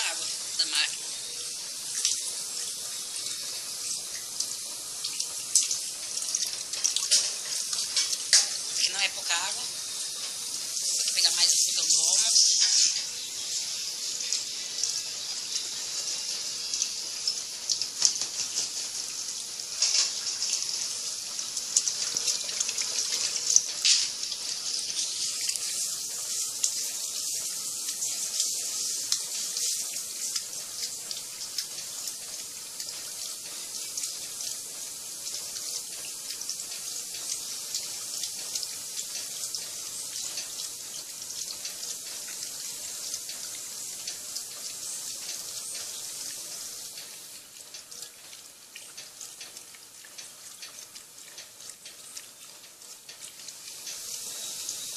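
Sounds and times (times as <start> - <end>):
water running into washing machine: 0.0 - 54.9.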